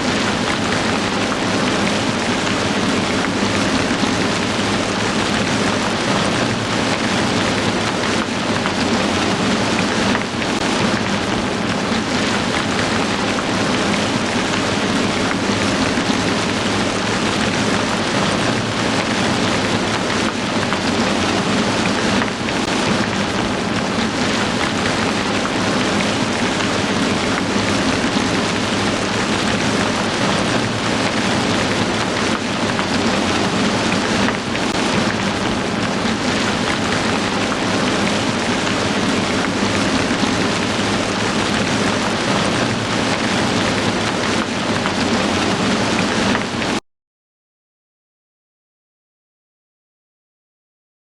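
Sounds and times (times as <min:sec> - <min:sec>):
heavy rain falling: 0:00.0 - 0:46.8.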